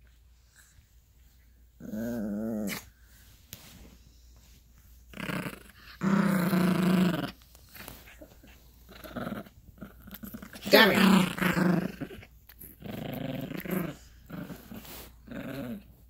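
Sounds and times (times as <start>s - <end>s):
puppy play-growling: 0.5s - 3.2s, 4.8s - 16.0s.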